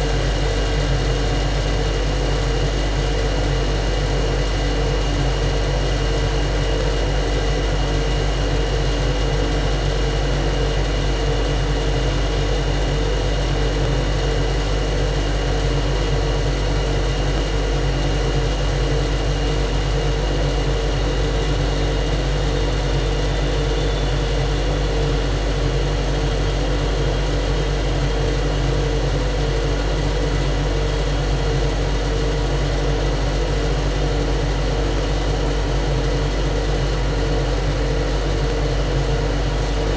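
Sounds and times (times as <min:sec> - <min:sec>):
engine-room machinery drone: 0:00.0 - 0:39.9
thin steady whine: 0:00.0 - 0:39.9.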